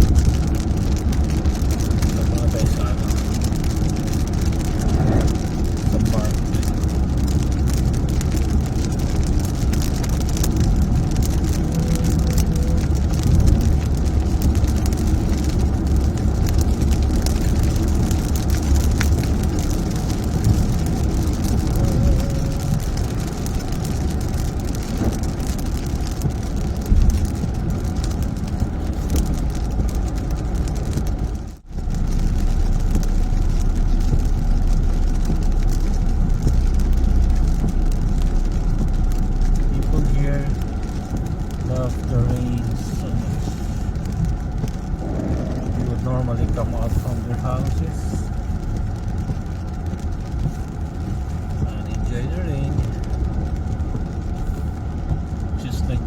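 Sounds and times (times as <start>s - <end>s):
car driving rumble: 0.0s - 56.0s
heavy rain hissing: 0.0s - 56.0s.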